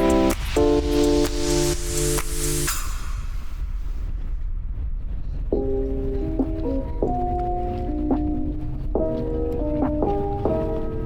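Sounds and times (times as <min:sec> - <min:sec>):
electronic music chords: 0:00.0 - 0:04.1, 0:05.6 - 0:11.0
steady rushing noise: 0:00.0 - 0:11.0.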